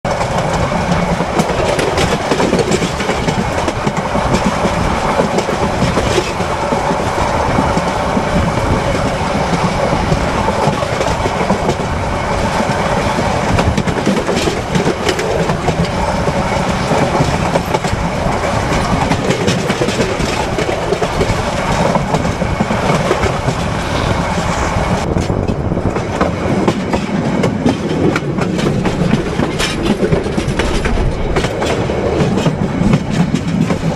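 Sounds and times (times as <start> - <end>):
train wheels rumbling on rails: 0.0 - 33.9
wheels clacking over rail joints: 0.1 - 33.9.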